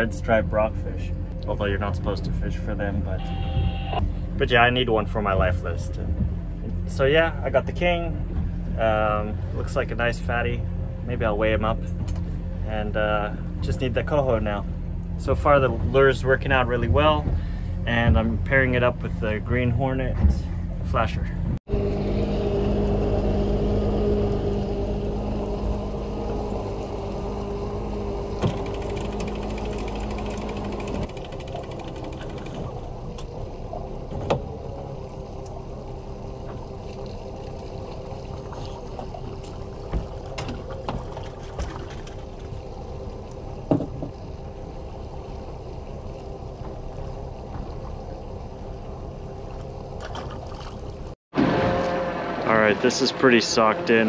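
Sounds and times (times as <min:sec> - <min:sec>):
boat motor running: 0:00.0 - 0:54.0
water against a hull: 0:01.2 - 0:21.6, 0:24.0 - 0:51.6.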